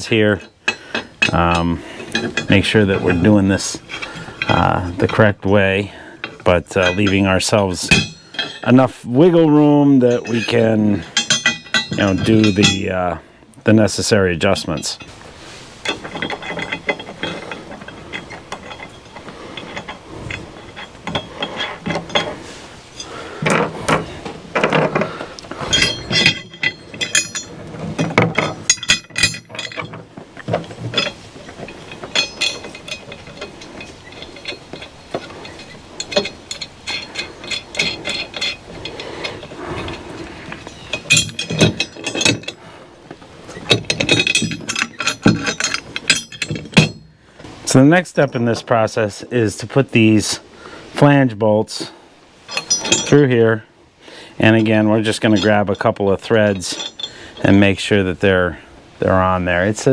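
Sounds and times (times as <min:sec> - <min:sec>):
metal hardware clinking: 0:00.0 - 0:47.2, 0:52.4 - 0:53.6, 0:54.4 - 0:58.0.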